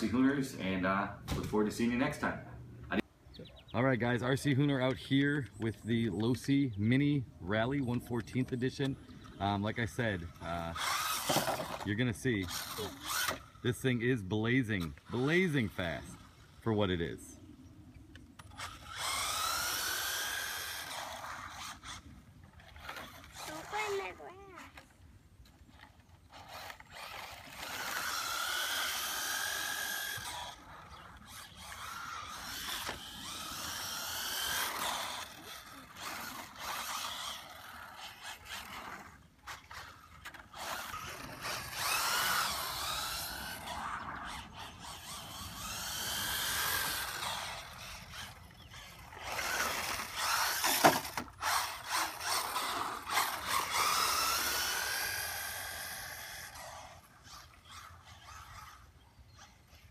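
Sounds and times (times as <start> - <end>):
rc car motor whining: 7.4 - 59.9.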